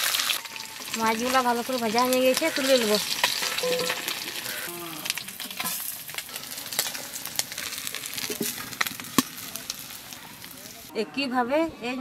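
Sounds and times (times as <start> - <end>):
fish sizzling in hot oil: 0.0 - 10.9.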